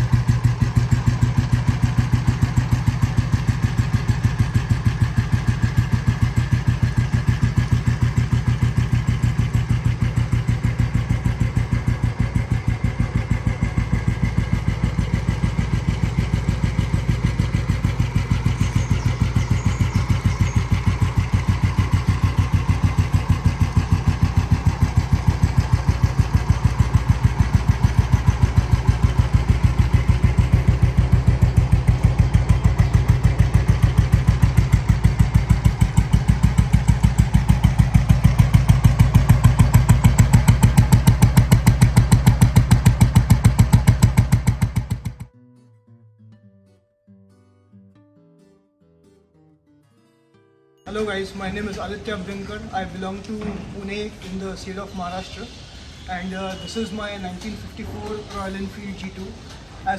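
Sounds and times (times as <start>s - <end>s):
motorcycle engine idling: 0.0s - 45.3s, 50.9s - 59.9s.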